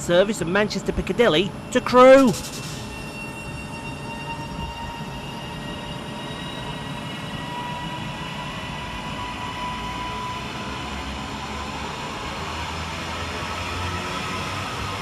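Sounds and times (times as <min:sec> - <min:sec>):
electric train traction whine: 0:00.0 - 0:15.0
low train rumble: 0:00.0 - 0:15.0.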